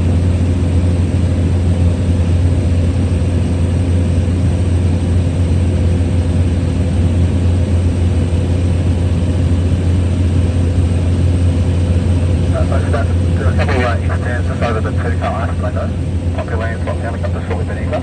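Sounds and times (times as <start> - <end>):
small plane engine droning: 0.0 - 18.0.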